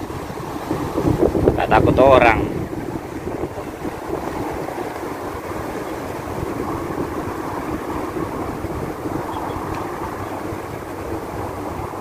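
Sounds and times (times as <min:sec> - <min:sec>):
traffic noise overhead: 0:00.0 - 0:12.0
wind buffeting microphone: 0:00.0 - 0:12.0.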